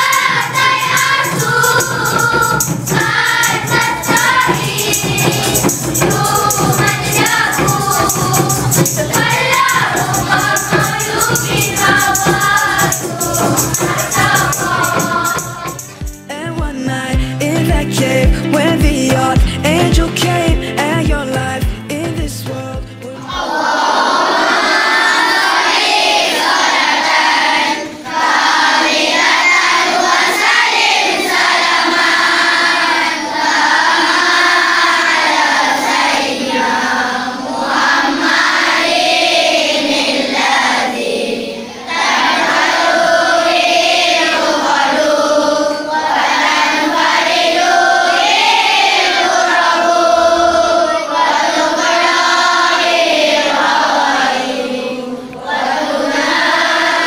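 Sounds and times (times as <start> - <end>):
children singing in unison: 0.0 - 16.1, 23.1 - 57.0.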